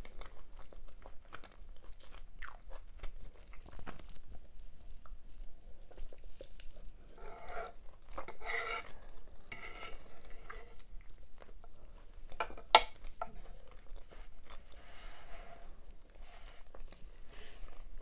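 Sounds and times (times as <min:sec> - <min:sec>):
chewing and wet mouth sounds: 0:00.0 - 0:14.8, 0:15.8 - 0:18.0.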